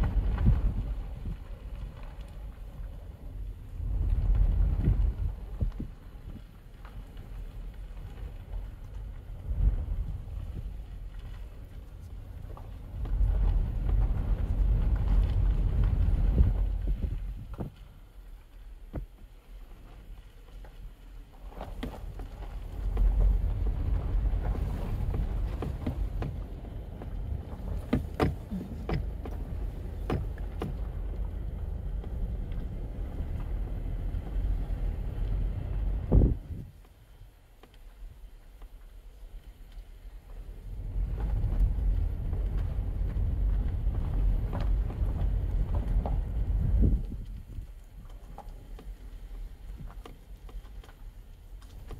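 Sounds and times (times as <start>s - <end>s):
wind buffeting microphone: 0.0s - 18.3s, 20.9s - 37.4s, 40.0s - 51.9s
car engine rumble: 0.0s - 51.9s.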